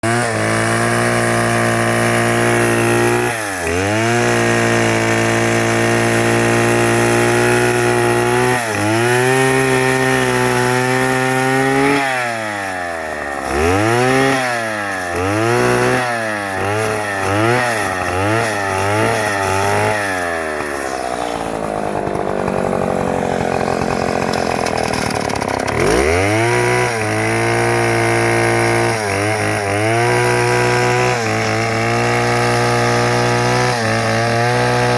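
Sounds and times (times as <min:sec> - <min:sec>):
chainsaw running: 0:00.0 - 0:34.9.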